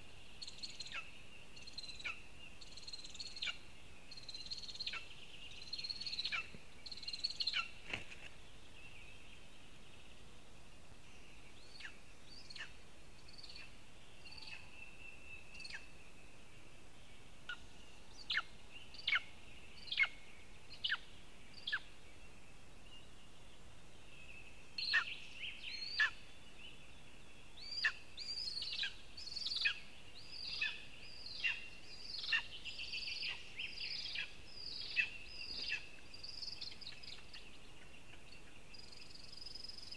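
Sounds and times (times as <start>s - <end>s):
faint birdsong: 0.0s - 39.9s.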